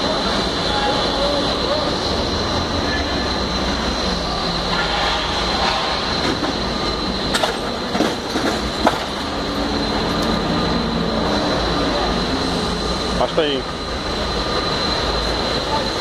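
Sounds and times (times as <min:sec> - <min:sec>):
forklift engine running: 0:00.0 - 0:16.0.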